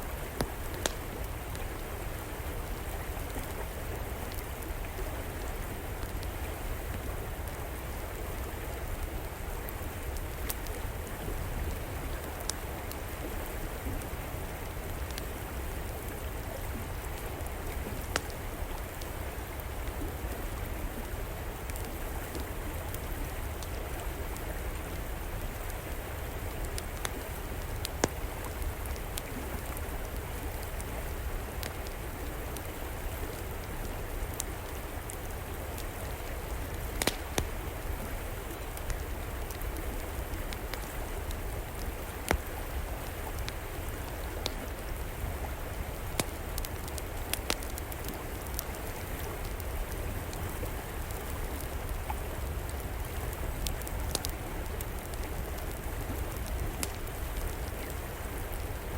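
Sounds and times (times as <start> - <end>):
river water flowing: 0.0 - 58.9
wood fire crackling: 0.1 - 58.9.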